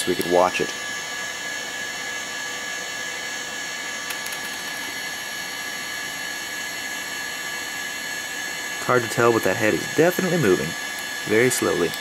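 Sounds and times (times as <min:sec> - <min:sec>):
hard drive high-pitched whine: 0:00.0 - 0:12.0.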